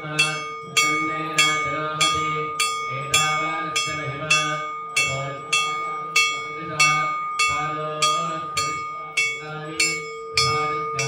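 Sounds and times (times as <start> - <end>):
low chanting voices: 0.0 - 11.0
metal temple bell ringing: 0.0 - 11.0.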